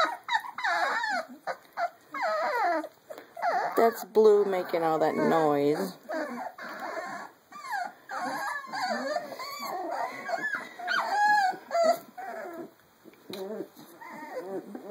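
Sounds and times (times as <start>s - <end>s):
puppy whining and yipping: 0.0s - 14.9s.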